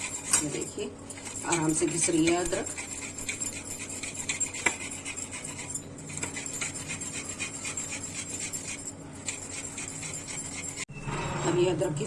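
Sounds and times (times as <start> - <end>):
ginger scraping on a grater: 0.0 - 10.9.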